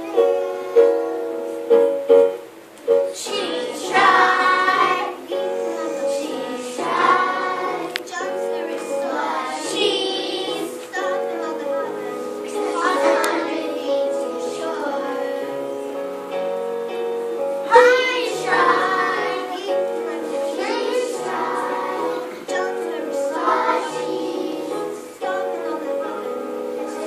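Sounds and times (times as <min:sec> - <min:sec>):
child singing: 0:00.0 - 0:01.5, 0:03.1 - 0:16.0, 0:17.6 - 0:27.0.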